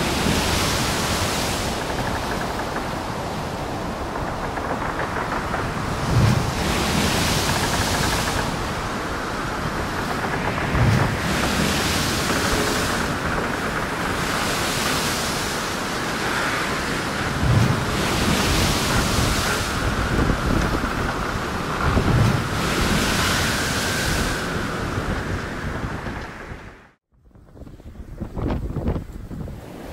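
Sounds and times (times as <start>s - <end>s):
rushing wind and water: 0.0s - 29.9s
wind buffeting microphone: 0.0s - 29.9s.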